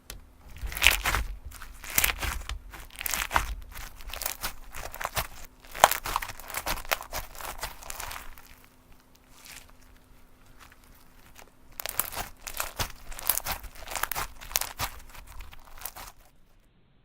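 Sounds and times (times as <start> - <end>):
slime crackling pops: 0.0 - 8.6, 10.5 - 16.2.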